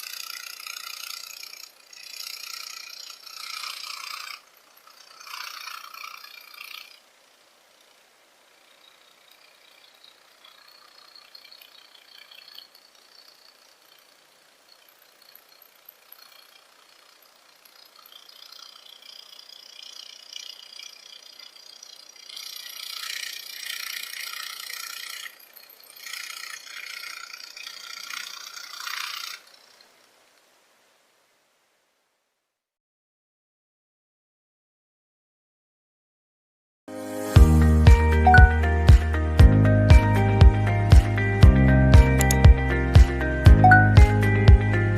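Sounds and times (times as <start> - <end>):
tiny electric motor whining: 0.0 - 30.1, 37.2 - 44.9.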